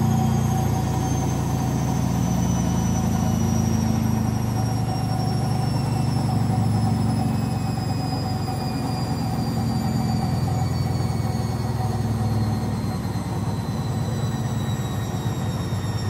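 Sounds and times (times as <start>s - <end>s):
high motor whine: 0.0s - 16.0s.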